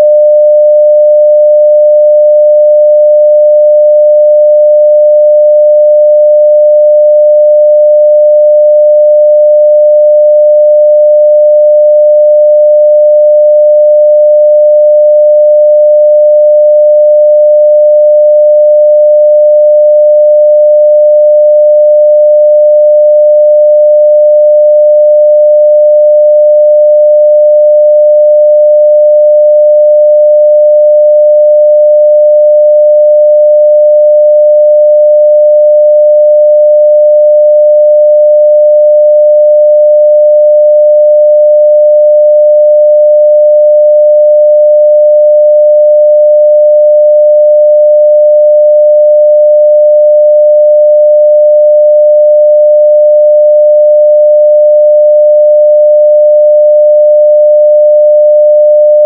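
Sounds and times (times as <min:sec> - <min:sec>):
sine-wave test tone: 0:00.0 - 0:59.0.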